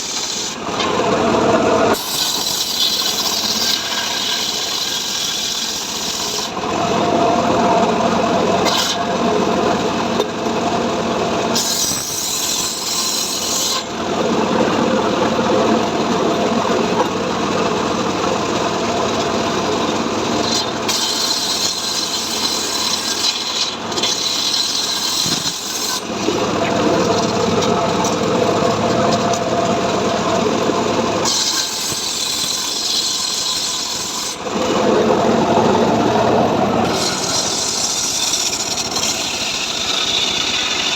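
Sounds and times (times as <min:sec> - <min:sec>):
power saw cutting wood: 0:00.0 - 0:40.9.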